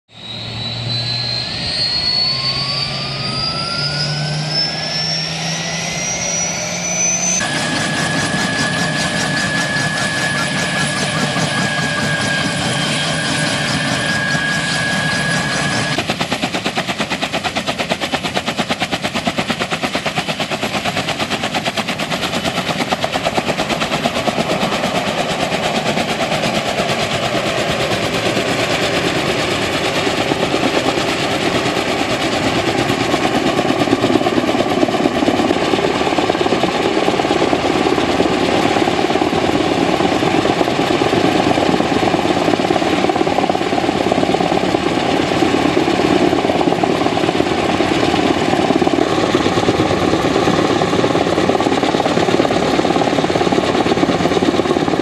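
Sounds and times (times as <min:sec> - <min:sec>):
helicopter engine whine: 0:00.1 - 0:55.0
helicopter rotor blades beating: 0:00.2 - 0:55.0.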